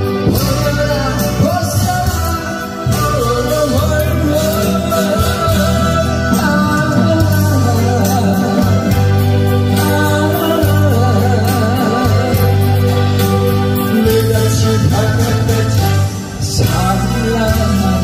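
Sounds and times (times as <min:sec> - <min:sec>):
amplified music with bass line: 0:00.0 - 0:18.0
man singing into a microphone: 0:00.0 - 0:18.0.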